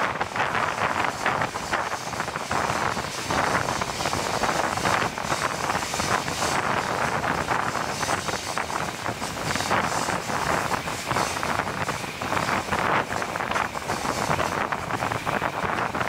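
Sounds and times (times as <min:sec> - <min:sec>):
train wheels rumbling on track: 0:00.0 - 0:16.0
wind rushing over microphone: 0:00.0 - 0:16.0.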